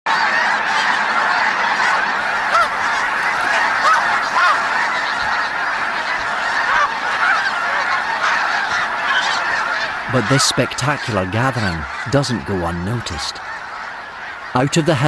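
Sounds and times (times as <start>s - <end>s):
single goose calls: 0.1s - 14.9s
flock of geese honking: 0.1s - 15.0s.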